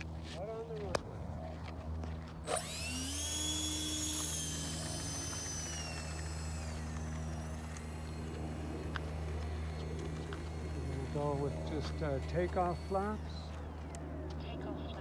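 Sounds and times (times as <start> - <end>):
electric ducted fans whining: 0.0 - 15.0.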